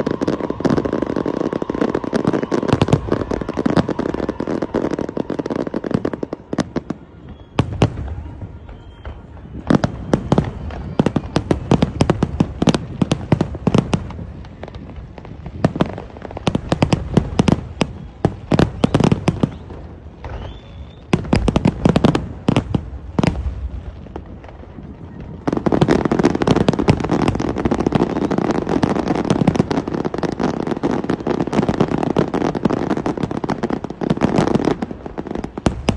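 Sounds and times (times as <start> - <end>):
fireworks bangs and crackle: 0.0 - 35.9.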